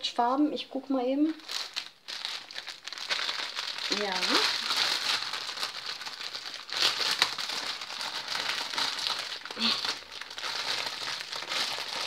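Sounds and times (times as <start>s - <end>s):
plastic bags rustling: 1.3s - 12.0s.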